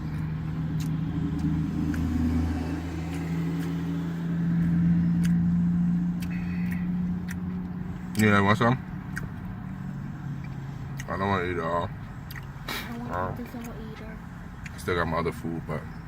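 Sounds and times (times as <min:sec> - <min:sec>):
engine idling hum: 0:00.0 - 0:16.0.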